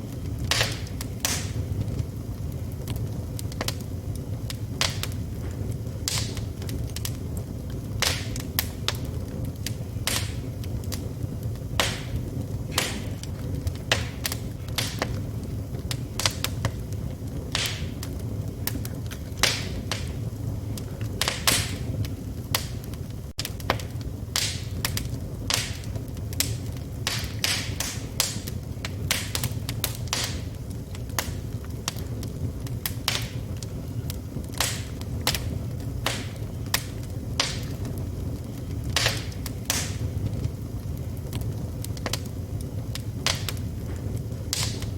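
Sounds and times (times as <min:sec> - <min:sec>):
burning wood crackling and popping: 0:00.0 - 0:44.9
low rumble of flames: 0:00.0 - 0:44.9.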